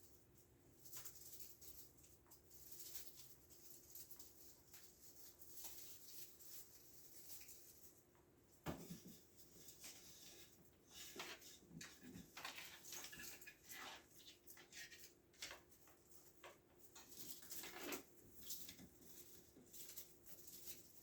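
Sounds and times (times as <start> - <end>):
soft rustles and clicks: 0.0 - 21.0.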